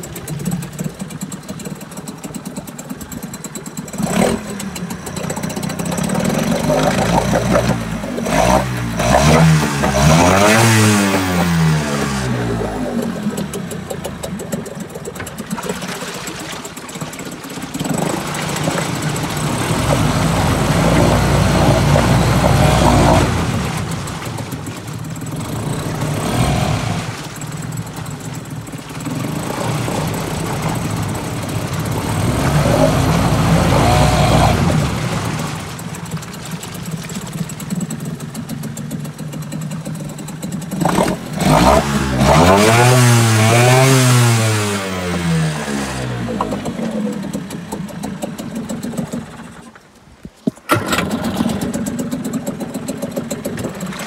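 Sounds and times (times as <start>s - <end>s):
outboard motor revving: 0.0s - 54.0s.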